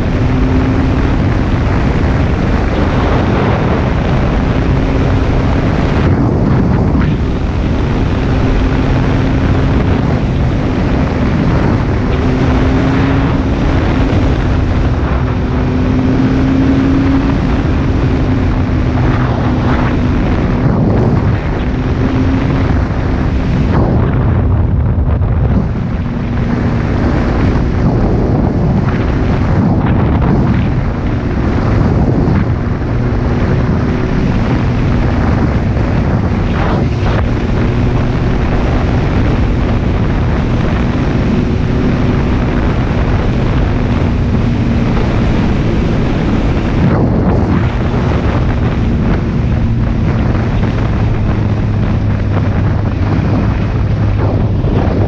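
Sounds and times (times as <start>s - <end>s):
motorcycle engine drone: 0.0s - 55.0s
wind buffeting microphone: 0.0s - 55.0s.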